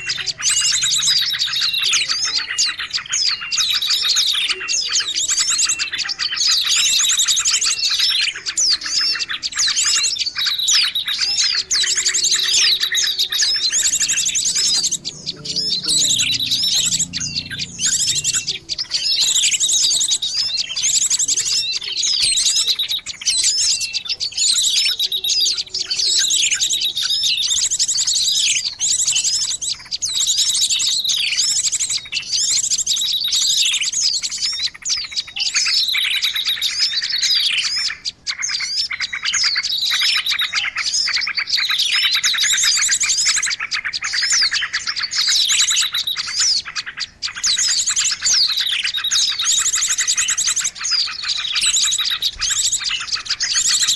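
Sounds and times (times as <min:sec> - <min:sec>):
falling whistled bird notes: 0:00.0 - 0:46.7
songbirds chirping and trilling: 0:00.0 - 0:53.9.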